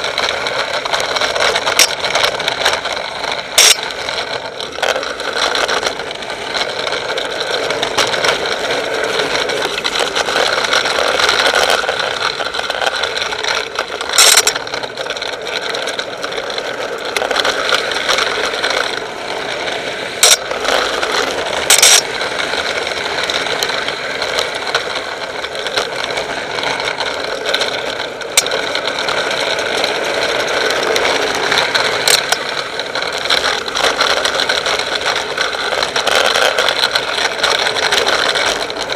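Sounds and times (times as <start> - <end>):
wheel and road noise: 0.0 - 38.9.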